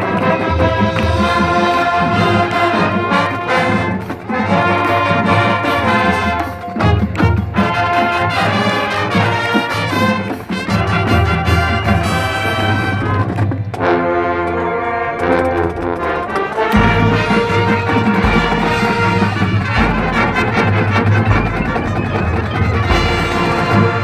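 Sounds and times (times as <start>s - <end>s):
brass section playing chords: 0.0s - 24.0s.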